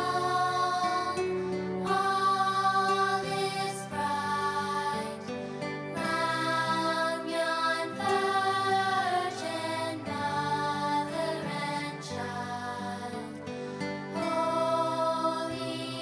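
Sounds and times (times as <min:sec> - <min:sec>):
slow soft music: 0:00.0 - 0:16.0.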